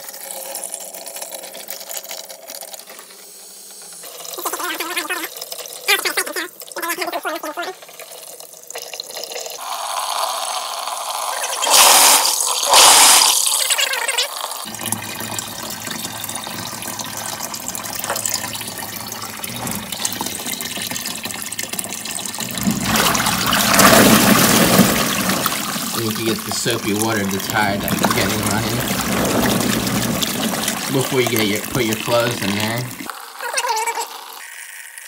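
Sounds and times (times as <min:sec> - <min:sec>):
water streaming into tub: 0:00.0 - 0:35.0
washing machine churning water: 0:04.0 - 0:34.4.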